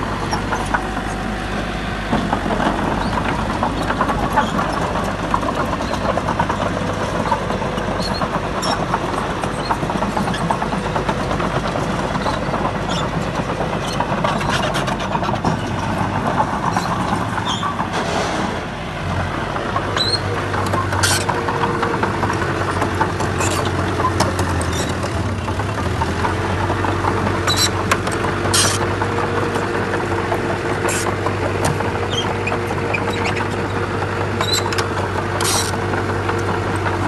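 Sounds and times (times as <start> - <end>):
heavy diesel engine running: 0.0 - 37.0
scattered clicks and knocks: 0.2 - 1.2, 2.1 - 18.7, 19.4 - 37.0.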